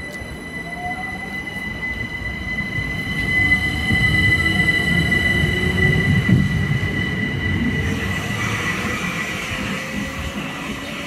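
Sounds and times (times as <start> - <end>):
steady high whine: 0.0 - 11.0
train wheels rumbling on rails: 0.0 - 11.0.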